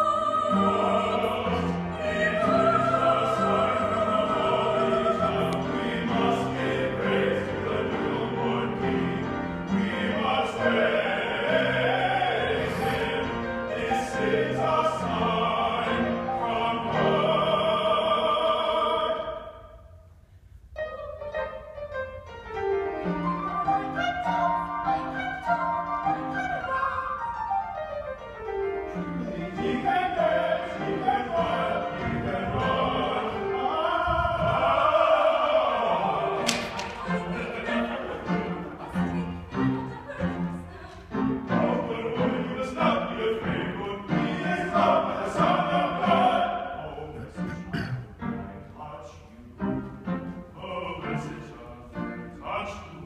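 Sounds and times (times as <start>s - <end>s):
opera singers: 0.0s - 53.0s.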